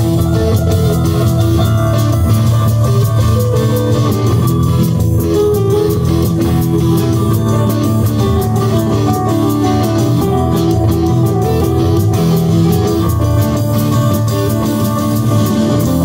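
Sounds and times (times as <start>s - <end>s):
drums keeping a beat: 0.0s - 16.0s
electric guitars: 0.0s - 16.0s.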